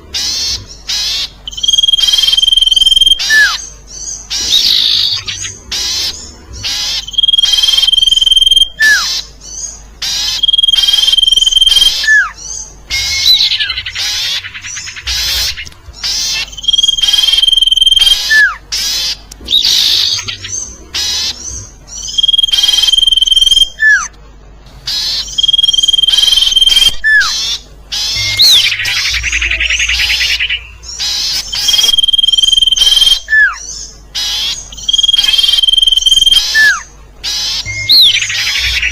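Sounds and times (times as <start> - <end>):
chattering bird calls: 0.0 - 38.9.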